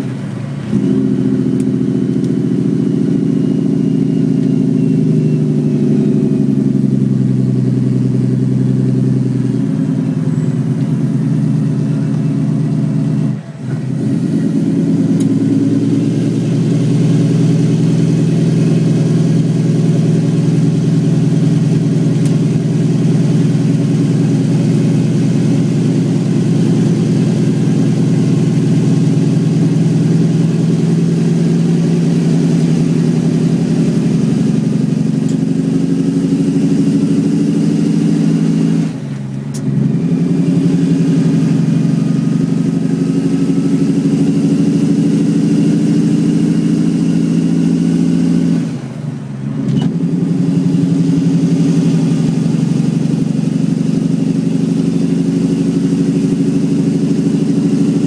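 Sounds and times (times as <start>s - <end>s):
diesel truck engine brake: 0.0s - 58.0s.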